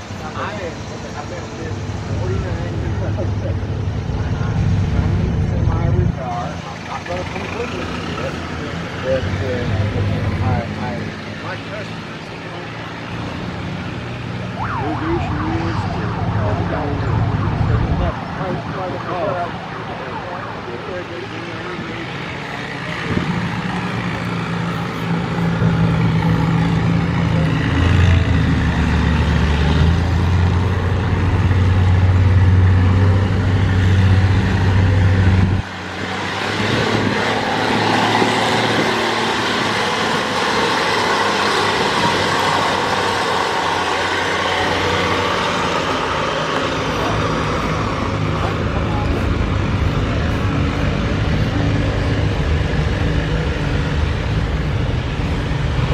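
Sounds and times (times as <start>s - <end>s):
engine and traffic noise: 0.0s - 55.9s
engine humming: 0.0s - 55.9s.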